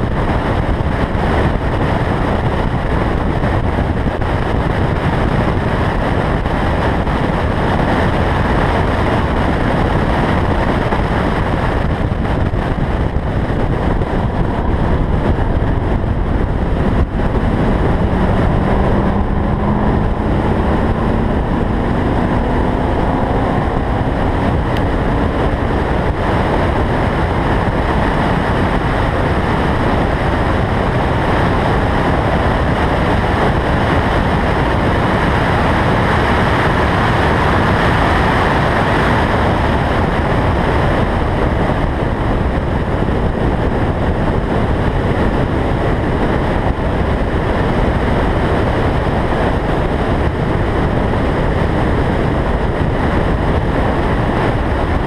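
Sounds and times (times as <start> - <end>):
car engine accelerating: 0.0 - 55.0
wind rushing over microphone: 0.0 - 55.0.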